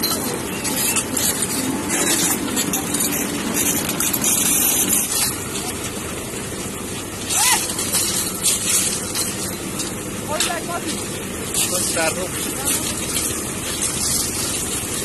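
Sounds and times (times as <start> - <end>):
shovels and rake scraping stone: 0.0 - 5.8, 7.2 - 15.0
concrete mixer engine running: 0.0 - 15.0.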